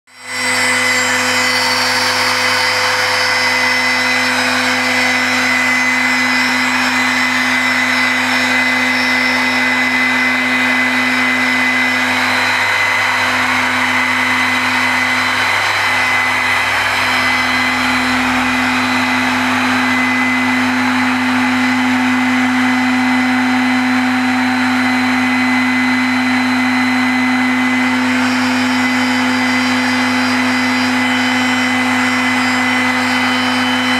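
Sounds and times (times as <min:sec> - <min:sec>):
stone router motor whine: 0:00.1 - 0:33.9.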